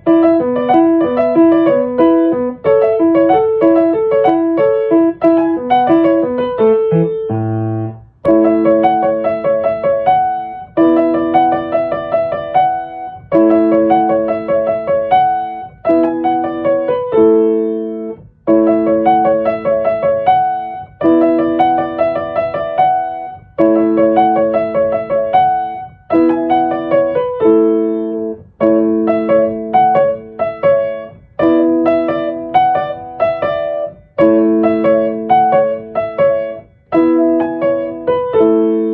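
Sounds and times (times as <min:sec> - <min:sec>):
piano playing chords: 0:00.0 - 0:38.9.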